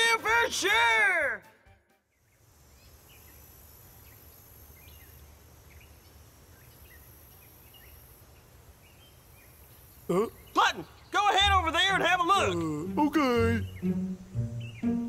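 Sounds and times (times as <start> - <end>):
high insect drone: 2.2 - 15.0.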